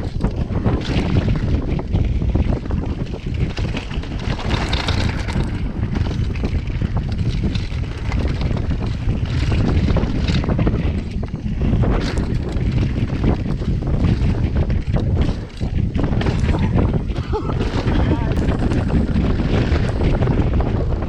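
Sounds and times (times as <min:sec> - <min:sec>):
mountain bike rattling on rough trail: 0:00.0 - 0:21.0
wind buffeting microphone: 0:00.0 - 0:21.0.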